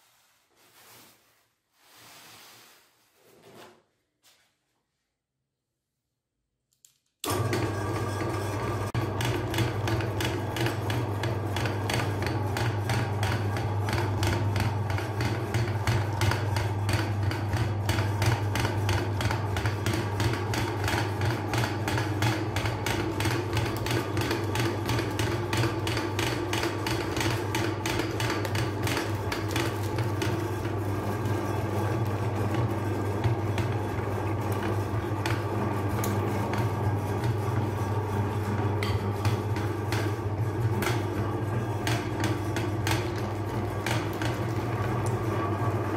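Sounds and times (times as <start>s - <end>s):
electric meat grinder running: 7.2s - 45.9s.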